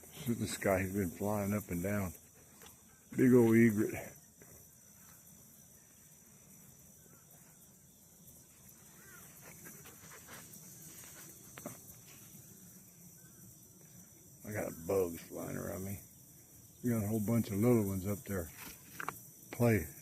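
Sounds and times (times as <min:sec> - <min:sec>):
faint chirps: 0:00.0 - 0:20.0
high insect hiss: 0:00.0 - 0:20.0.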